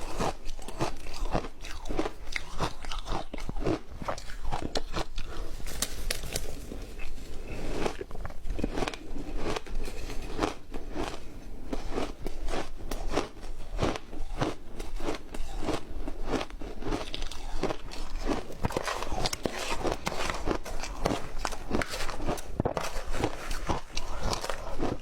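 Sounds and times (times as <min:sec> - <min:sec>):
chewing crunchy ice: 0:00.0 - 0:05.7, 0:06.3 - 0:25.0.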